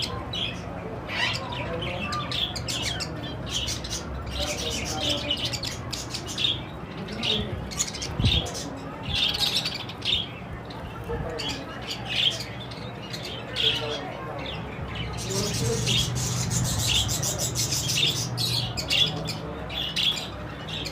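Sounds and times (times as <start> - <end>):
budgerigars chattering: 0.0 - 10.4, 11.4 - 20.9.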